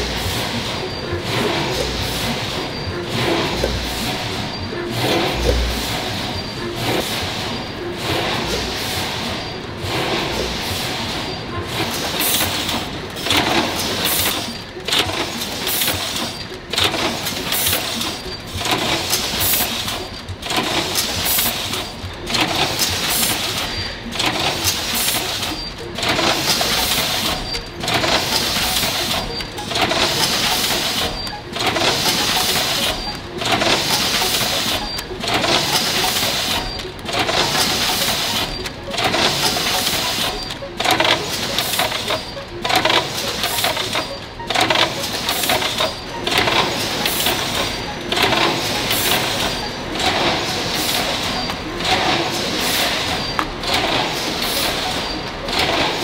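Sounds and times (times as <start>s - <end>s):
packing machine running: 0.0s - 56.0s.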